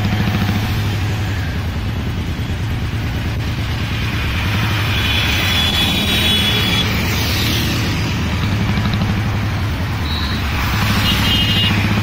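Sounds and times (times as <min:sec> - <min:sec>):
truck engine rumble: 0:00.0 - 0:12.0.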